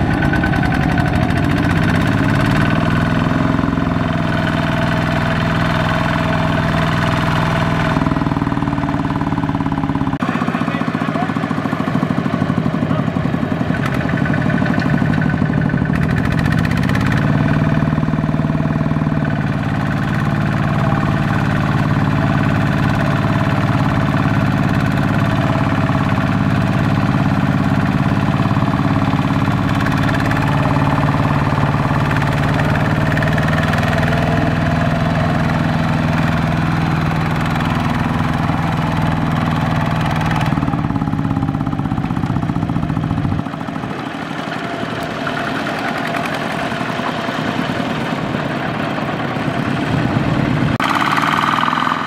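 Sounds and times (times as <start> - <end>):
diesel engine chugging: 0.0 - 52.0.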